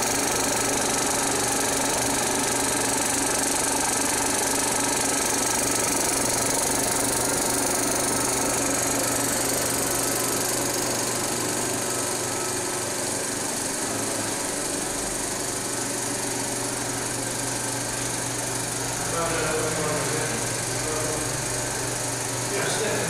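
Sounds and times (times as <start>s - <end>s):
film projector mechanism clattering: 0.0s - 23.0s
motor hum: 0.0s - 23.0s.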